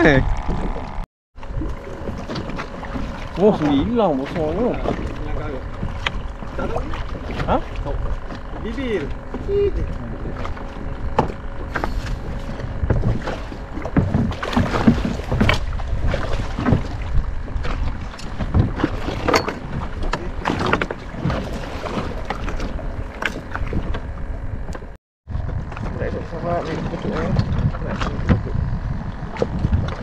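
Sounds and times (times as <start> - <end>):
boat knocks and bumps: 0.0 - 30.0
water splashing against boat hull: 0.0 - 30.0
wind buffeting microphone: 0.0 - 30.0.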